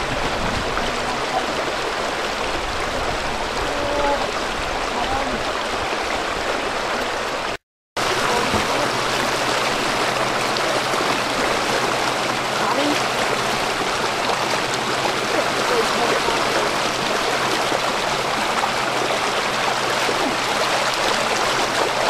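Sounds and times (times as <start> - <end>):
river water rushing and splashing: 0.0 - 22.0.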